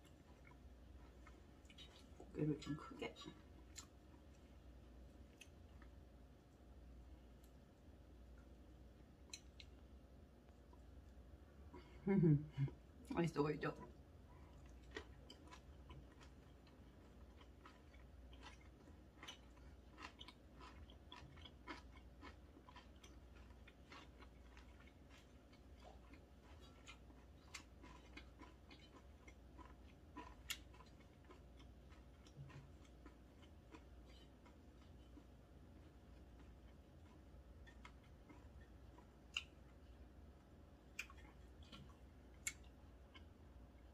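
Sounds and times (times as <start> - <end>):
faint chewing with mouth clicks: 0.0 - 12.0, 12.6 - 43.9.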